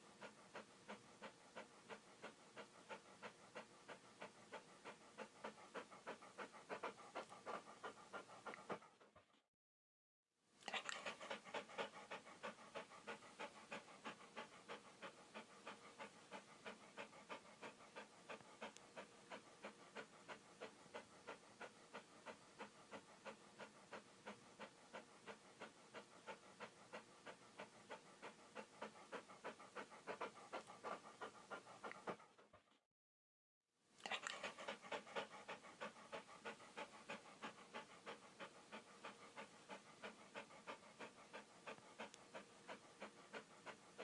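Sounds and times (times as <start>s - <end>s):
dog panting: 0.0s - 9.5s, 10.6s - 32.8s, 34.0s - 44.0s.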